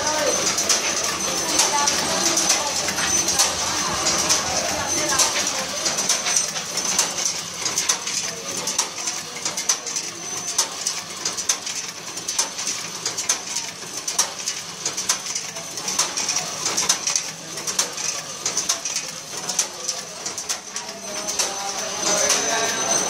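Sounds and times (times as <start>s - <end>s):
irregular mechanical clicking: 0.0s - 22.4s
packing machine high-pitched whine: 0.0s - 23.0s.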